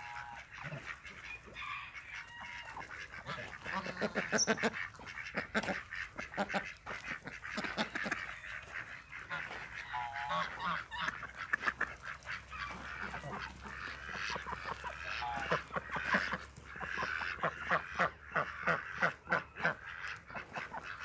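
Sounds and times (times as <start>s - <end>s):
waterfowl calling: 0.0s - 21.0s.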